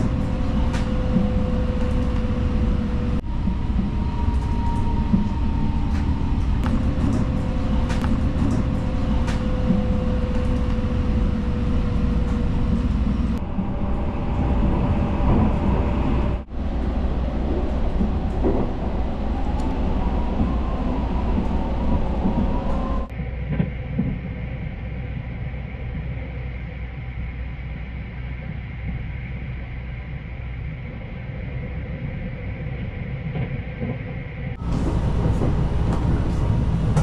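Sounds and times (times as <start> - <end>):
train running low rumble: 0.0 - 37.0.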